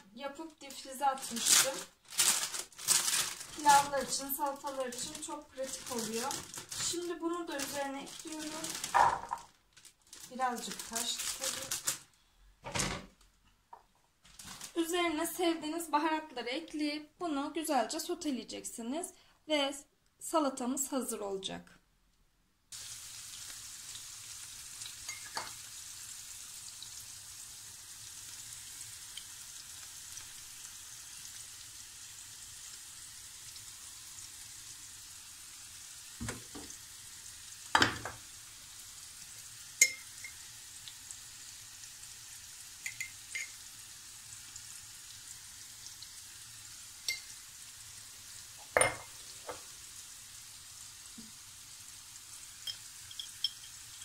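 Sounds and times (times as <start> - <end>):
chickpeas sizzling in oil: 0.0 - 12.0, 22.7 - 54.0.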